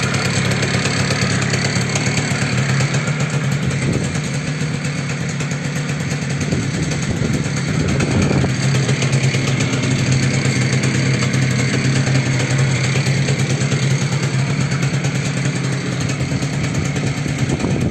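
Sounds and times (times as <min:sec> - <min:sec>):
scooter engine idling with knock: 0:00.0 - 0:17.9.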